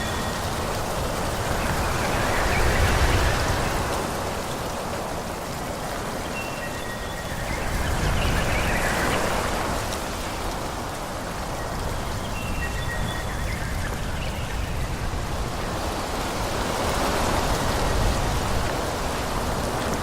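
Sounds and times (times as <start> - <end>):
wind rushing through trees: 0.0 - 20.0.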